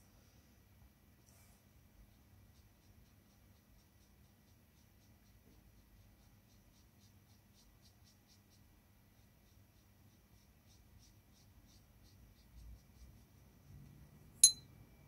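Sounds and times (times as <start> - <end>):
low room hum: 0.0 - 15.0
brush strokes on paper: 1.3 - 13.8.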